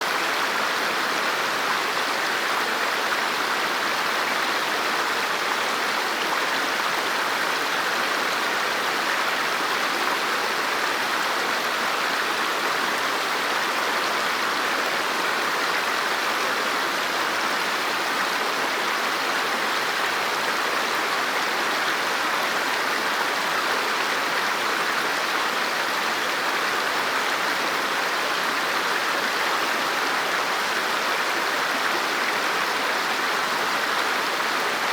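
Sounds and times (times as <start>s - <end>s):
river water flowing over rocks: 0.0s - 34.9s.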